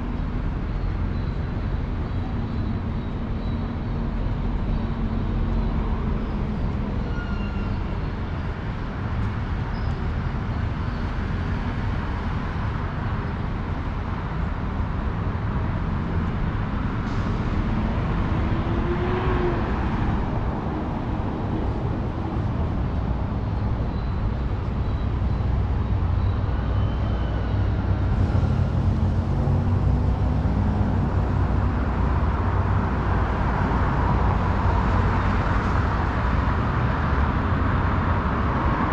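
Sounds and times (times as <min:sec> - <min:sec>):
cars driving by: 0:00.0 - 0:38.9.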